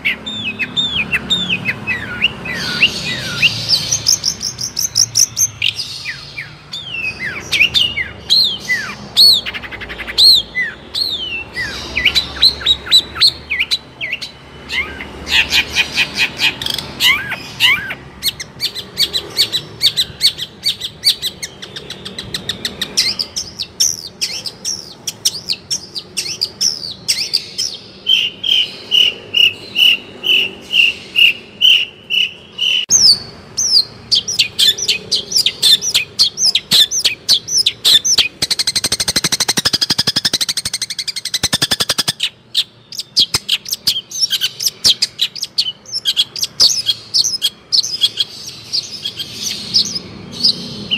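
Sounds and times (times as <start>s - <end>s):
bird rapid high trill: 0.0s - 50.9s
bird singing sharp chirps: 0.0s - 50.9s.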